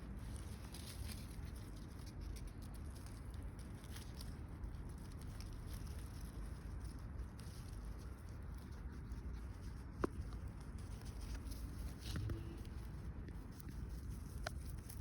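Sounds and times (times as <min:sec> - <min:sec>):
low steady rumble: 0:00.0 - 0:15.0
rabbit chewing food: 0:00.0 - 0:15.0.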